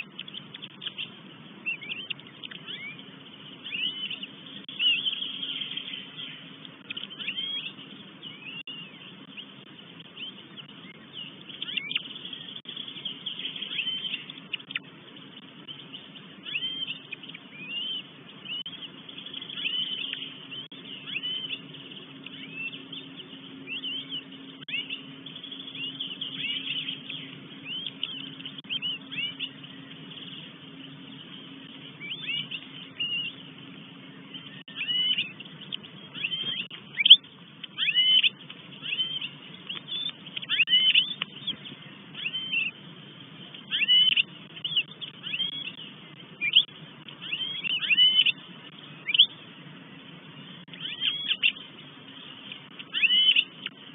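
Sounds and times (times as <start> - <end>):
birds chirping: 0.0 - 53.9
steady low hum: 0.0 - 53.9.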